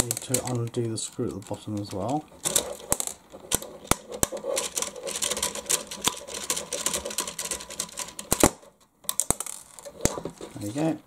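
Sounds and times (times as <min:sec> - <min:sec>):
plastic clicks and rattles: 0:00.0 - 0:10.5.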